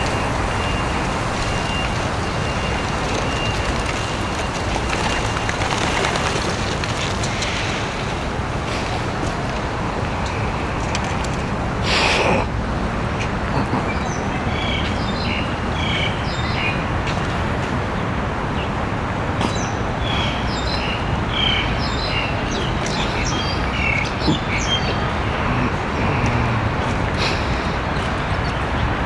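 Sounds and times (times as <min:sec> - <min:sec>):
birds chirping: 0:00.0 - 0:12.5, 0:13.1 - 0:17.4, 0:18.0 - 0:29.0
city traffic hum: 0:00.0 - 0:29.0.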